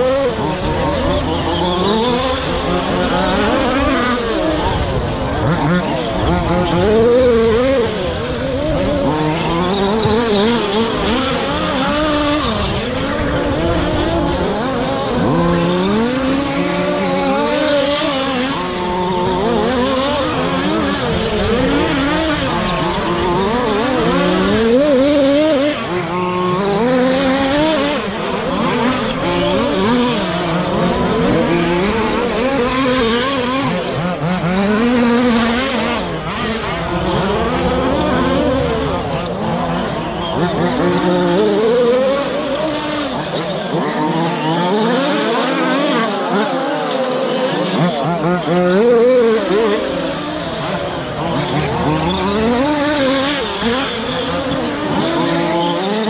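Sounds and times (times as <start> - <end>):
rc truck motors whining: 0.0 - 56.0.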